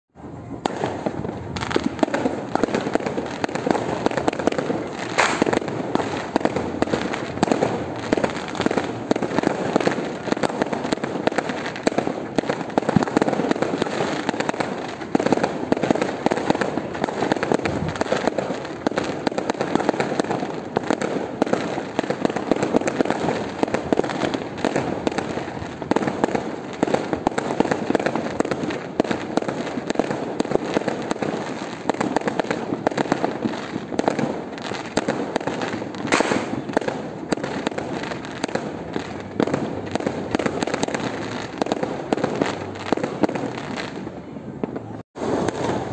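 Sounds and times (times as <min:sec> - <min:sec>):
fireworks bangs and crackles: 0:00.1 - 0:45.9.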